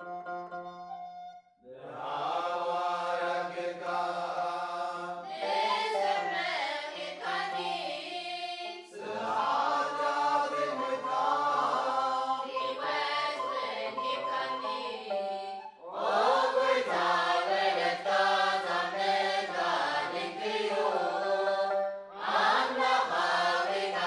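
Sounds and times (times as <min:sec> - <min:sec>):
choir singing a hymn: 0:01.7 - 0:24.0.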